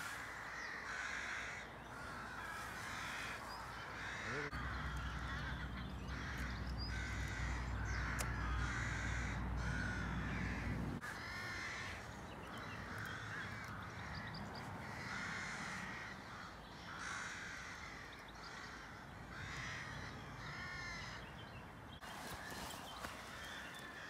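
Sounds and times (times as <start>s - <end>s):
harsh bird calls: 0.0s - 24.0s.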